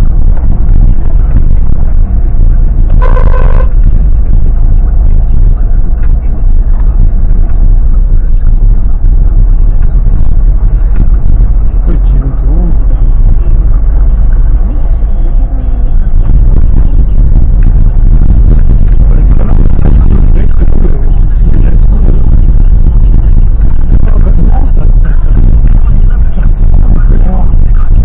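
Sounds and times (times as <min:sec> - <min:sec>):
car engine and tyre noise: 0:00.0 - 0:28.0.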